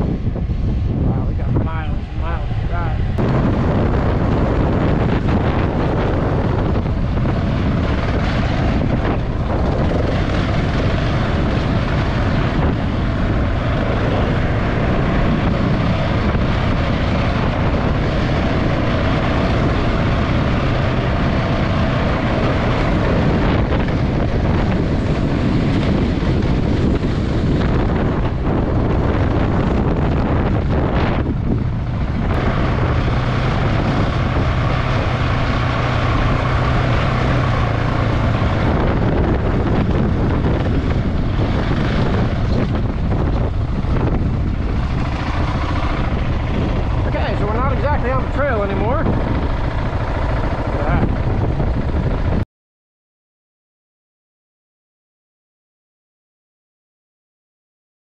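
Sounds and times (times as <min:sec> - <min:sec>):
motorcycle engine running: 0:00.0 - 0:52.4
wind rushing over microphone: 0:00.0 - 0:52.4.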